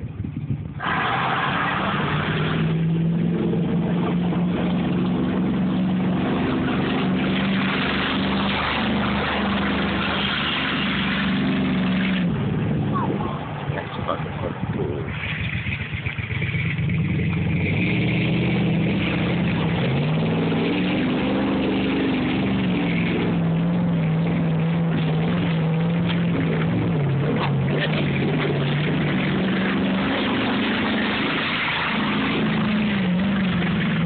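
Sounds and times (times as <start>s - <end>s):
vehicle engine under load: 0.0s - 34.0s.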